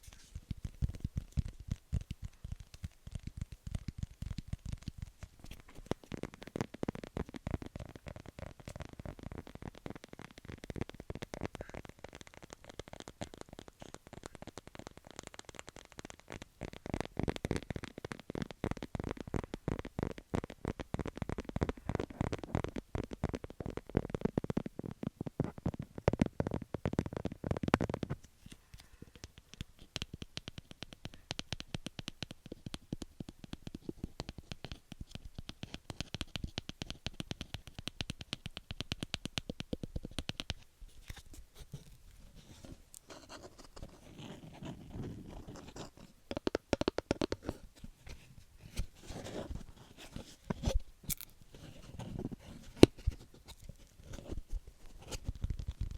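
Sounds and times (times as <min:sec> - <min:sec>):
tapping and scratching on book: 0:00.0 - 0:55.9.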